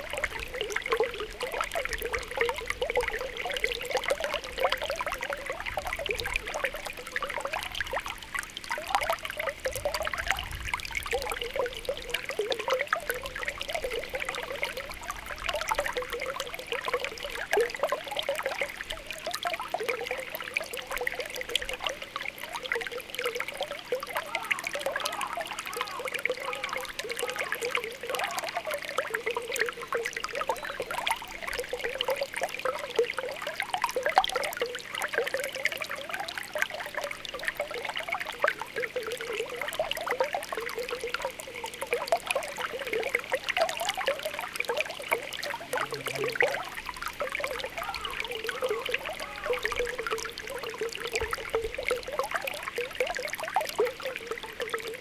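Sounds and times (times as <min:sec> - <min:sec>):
small bubbles popping: 0:00.0 - 0:55.0
spring water trickling: 0:00.0 - 0:55.0.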